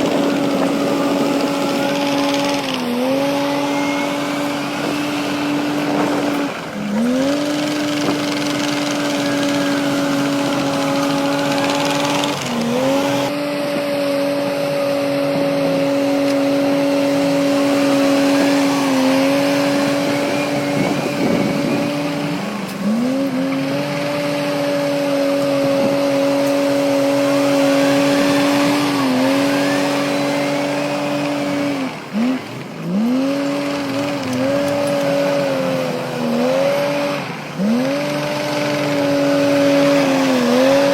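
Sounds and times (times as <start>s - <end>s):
diesel engine at high revs: 0.0s - 40.9s.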